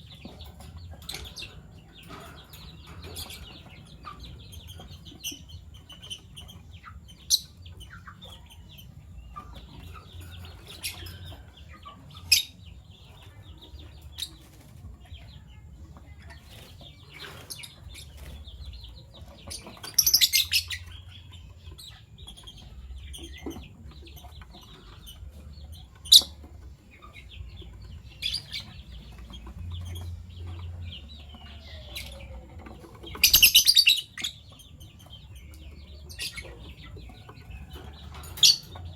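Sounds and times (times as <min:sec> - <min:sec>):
birds chattering rapidly: 0:00.0 - 0:38.9
lovebirds chirping: 0:00.0 - 0:38.9.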